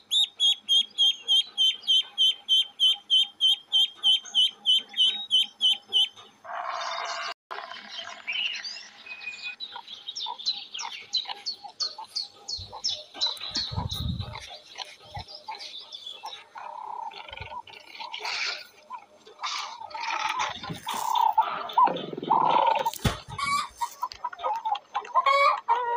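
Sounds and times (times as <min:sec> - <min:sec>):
ducklings peeping: 0:00.0 - 0:07.3, 0:07.9 - 0:25.9.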